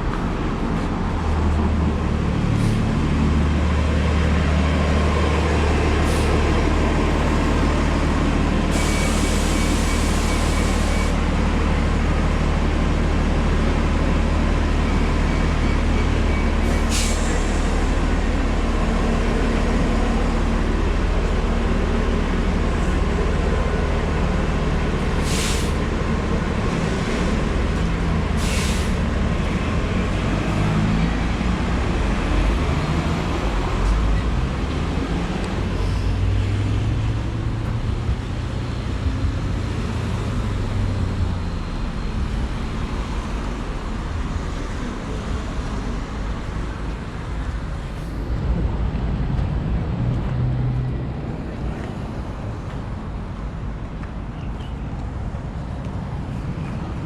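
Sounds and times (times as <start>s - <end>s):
vehicle rumble with road noise: 0.0s - 57.0s.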